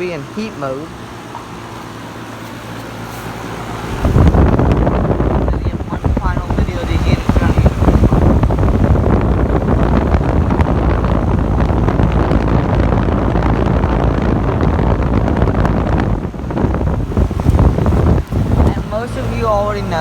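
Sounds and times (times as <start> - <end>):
heat pump units running: 0.0 - 20.0
wind buffeting microphone: 1.2 - 20.0.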